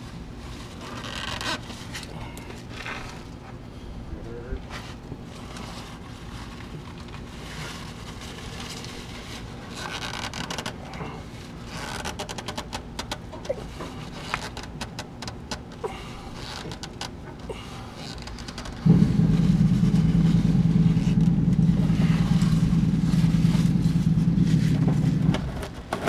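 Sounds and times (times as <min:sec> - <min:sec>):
oil filter rubbing and scraping: 0:00.0 - 0:03.6, 0:04.6 - 0:26.0.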